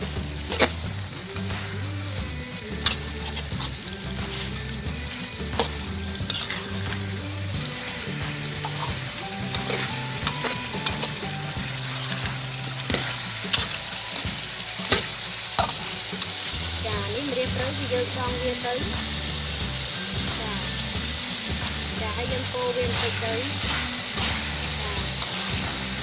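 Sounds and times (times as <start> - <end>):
food sizzling in a wok: 0.0 - 26.0
metal spatula scraping wok: 0.0 - 26.0.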